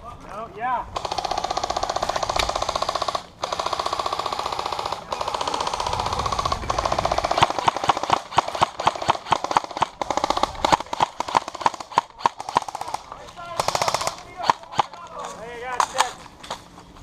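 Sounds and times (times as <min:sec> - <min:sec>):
airsoft guns firing: 0:01.0 - 0:16.6.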